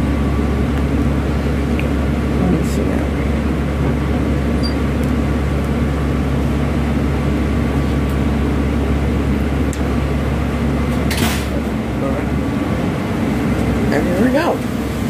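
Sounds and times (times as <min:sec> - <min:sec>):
diesel bus idling drone: 0:00.0 - 0:15.0.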